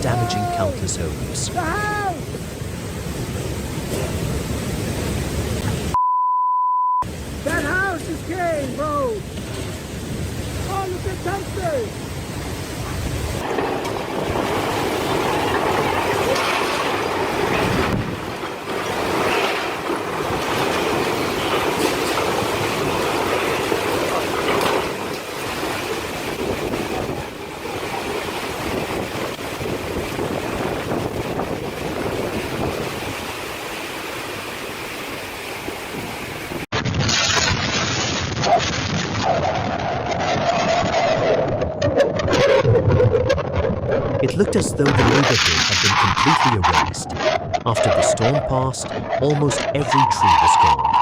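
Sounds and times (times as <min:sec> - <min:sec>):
floodwater rushing: 0:00.0 - 0:06.0, 0:07.1 - 0:41.6, 0:43.8 - 0:51.0.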